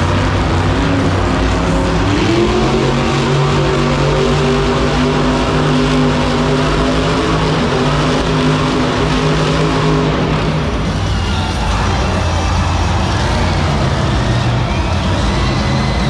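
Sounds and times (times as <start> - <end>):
monster truck engine high revs: 0.0 - 16.0.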